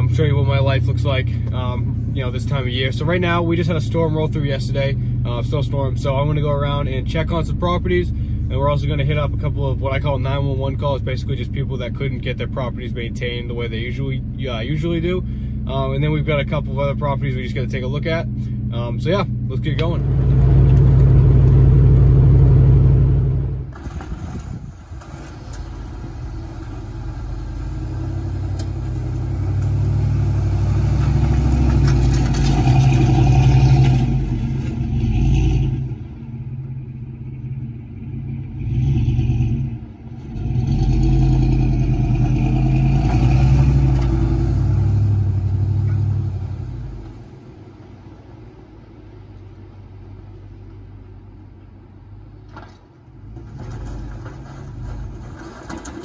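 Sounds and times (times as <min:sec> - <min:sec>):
truck engine revving: 0:00.0 - 0:47.8.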